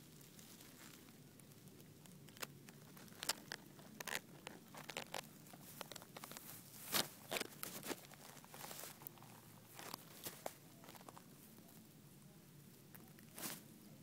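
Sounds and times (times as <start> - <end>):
grass rustling against microphone: 0.0 - 14.0.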